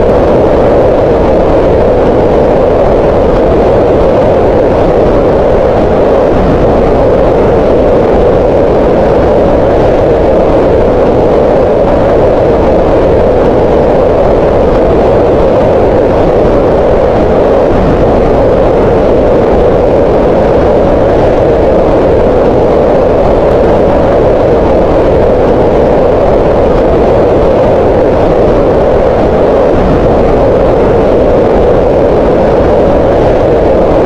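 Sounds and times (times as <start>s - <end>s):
steady hiss-like noise: 0.0s - 34.0s.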